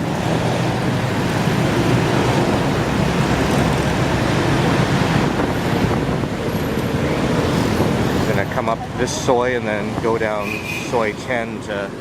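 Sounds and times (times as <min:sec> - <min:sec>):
wind rushing over microphone: 0:00.0 - 0:10.4
road traffic: 0:00.0 - 0:12.0.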